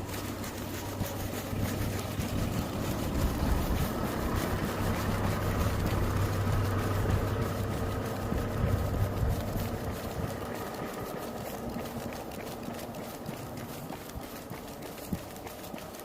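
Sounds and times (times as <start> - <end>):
faint ticks and scuffs: 0.0 - 16.0
low engine hum: 0.0 - 16.0.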